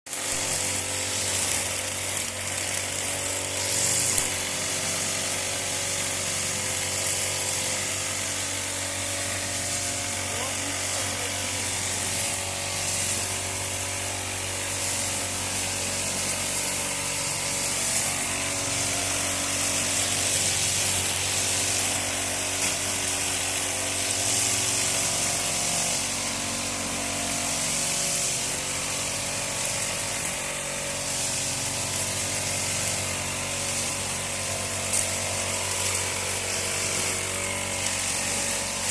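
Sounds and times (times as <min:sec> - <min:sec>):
small power tool engine running: 0:00.1 - 0:38.9.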